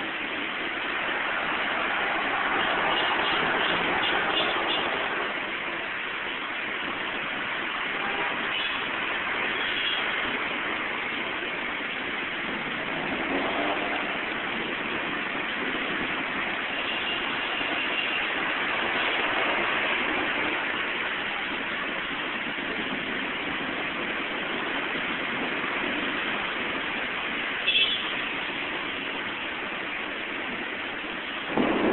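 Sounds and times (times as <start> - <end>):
heavy rain pouring: 0.0 - 31.9
vehicles driving on wet road: 0.0 - 31.9.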